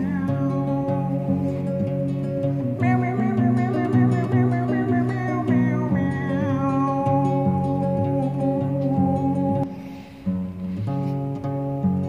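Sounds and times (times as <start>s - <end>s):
instrumental music with guitar: 0.0s - 12.0s.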